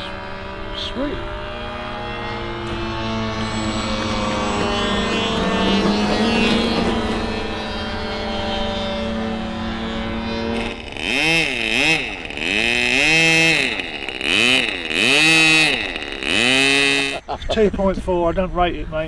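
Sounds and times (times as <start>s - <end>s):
model aircraft engine revving: 0.0s - 17.4s.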